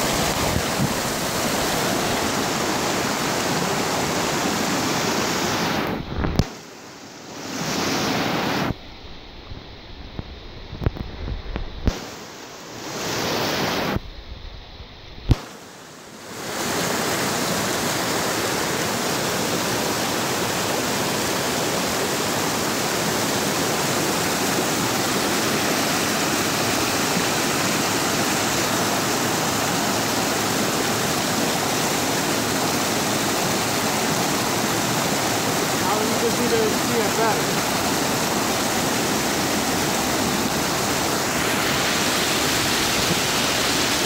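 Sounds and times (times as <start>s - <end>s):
stream rushing over boulders: 0.0s - 14.4s, 15.3s - 44.0s.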